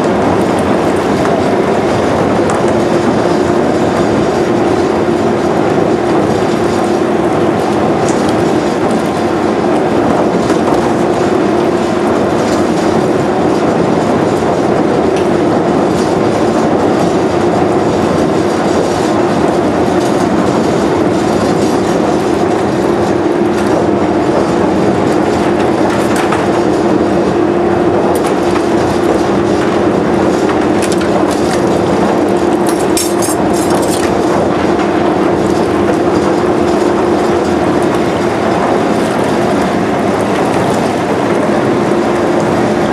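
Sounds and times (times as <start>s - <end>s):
churning water: 0.0s - 42.9s.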